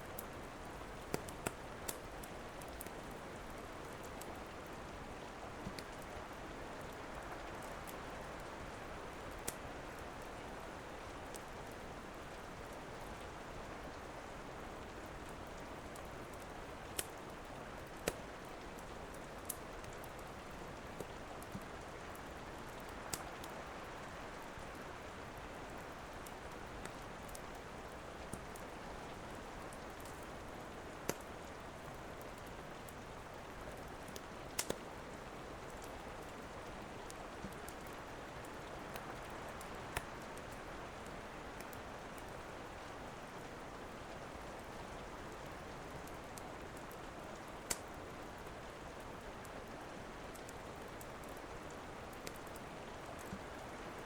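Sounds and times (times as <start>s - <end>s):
wood fire crackling: 0.1s - 13.3s, 13.9s - 54.0s.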